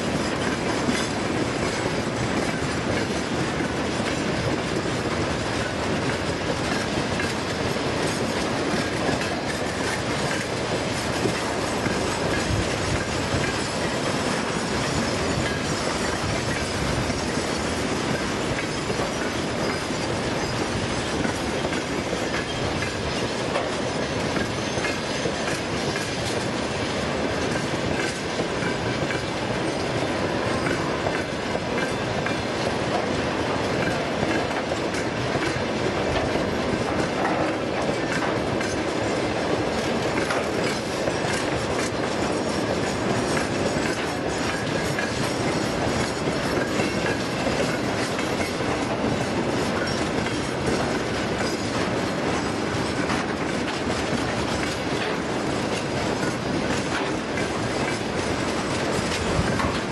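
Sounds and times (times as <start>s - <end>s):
freight train rumble: 0.0s - 59.9s
wheels clacking over rail joints: 0.0s - 59.9s.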